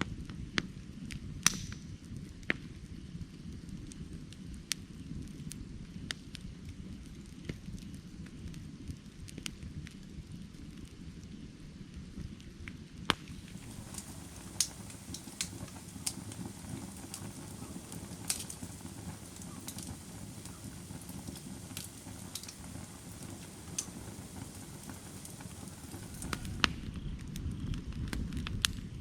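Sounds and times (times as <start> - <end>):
burning wood crackling and popping: 0.0 - 29.0
flames rushing: 0.2 - 29.0.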